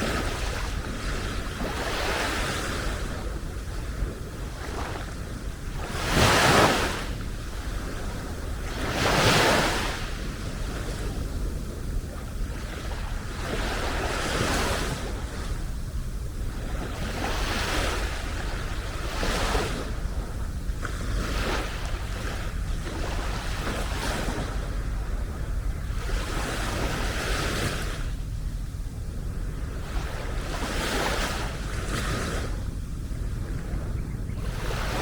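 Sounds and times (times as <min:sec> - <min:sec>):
small waves breaking on beach: 0:00.0 - 0:28.2, 0:29.1 - 0:35.0
wind rumble on microphone: 0:00.0 - 0:35.0.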